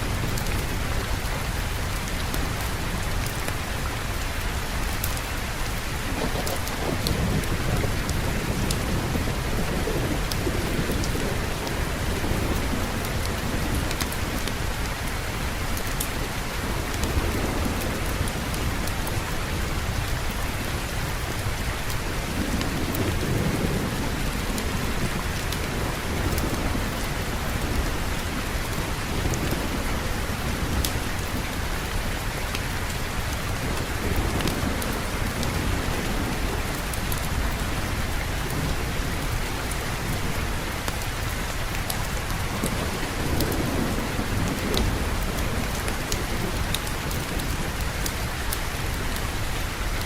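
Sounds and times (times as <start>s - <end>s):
heavy rain: 0.0s - 50.0s
low rolling thunder: 5.6s - 49.6s.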